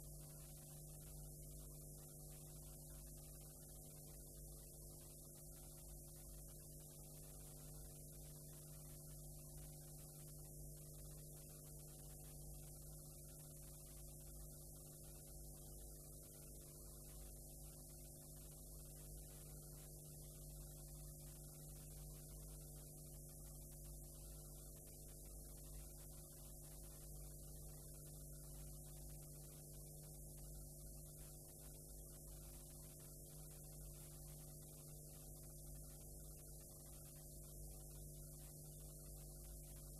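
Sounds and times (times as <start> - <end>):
electrical hum with hiss: 0.0 - 39.9.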